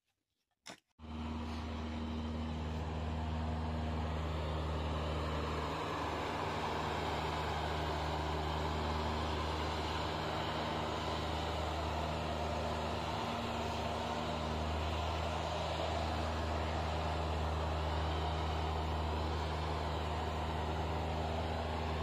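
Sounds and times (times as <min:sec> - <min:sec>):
road roller engine running: 0:01.0 - 0:22.0.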